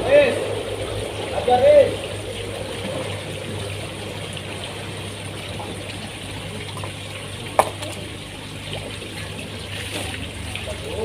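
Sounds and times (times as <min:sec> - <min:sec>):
constant low hum: 0:00.0 - 0:11.0
water trickling: 0:00.0 - 0:11.0.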